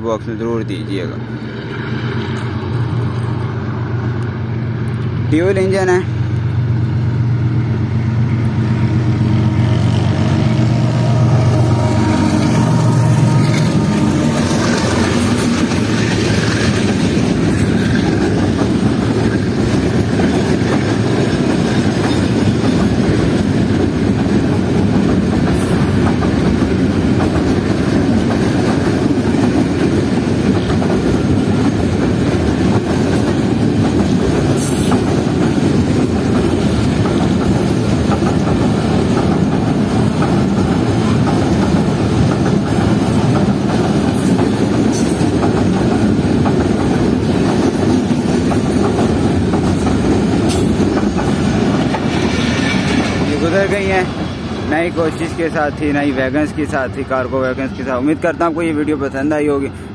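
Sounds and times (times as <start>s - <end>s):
diesel locomotive engines: 0.0s - 59.9s
freight train wheels rumbling: 0.0s - 59.9s.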